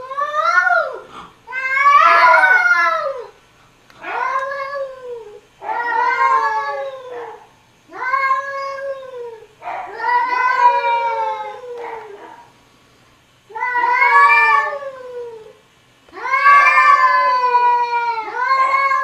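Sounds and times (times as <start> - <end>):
cats yowling: 0.0 - 3.4, 4.0 - 12.5, 13.5 - 19.0.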